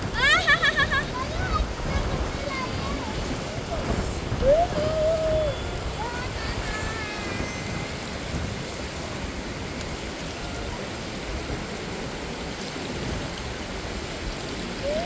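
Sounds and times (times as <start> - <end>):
fast-flowing stream rushing: 0.0 - 15.0.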